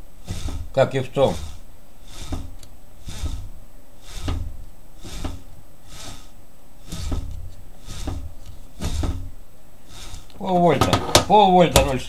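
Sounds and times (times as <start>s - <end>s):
generator spun by hand: 0.0s - 12.0s.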